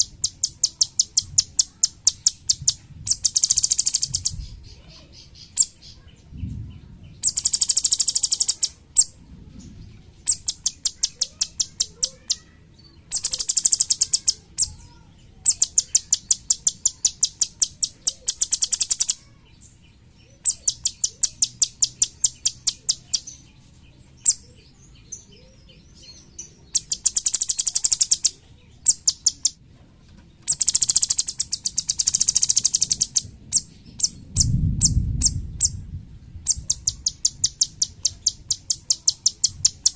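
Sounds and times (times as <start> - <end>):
songbird trilling: 0.0 - 6.2, 7.1 - 9.2, 10.2 - 23.5, 24.1 - 29.6, 30.4 - 35.8, 36.4 - 39.9.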